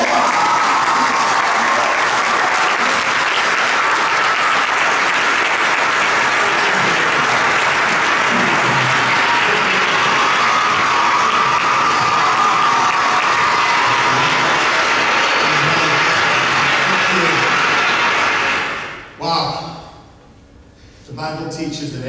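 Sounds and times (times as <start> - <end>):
congregation applauding: 0.0 - 19.1.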